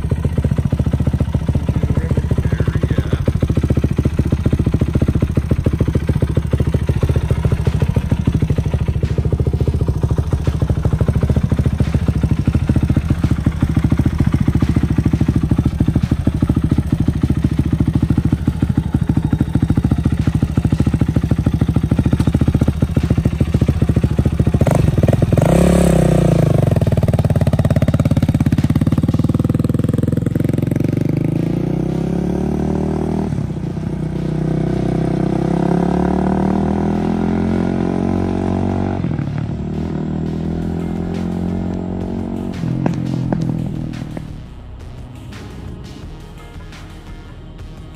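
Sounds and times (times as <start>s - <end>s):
quad engine idling and revving: 0.0s - 47.9s.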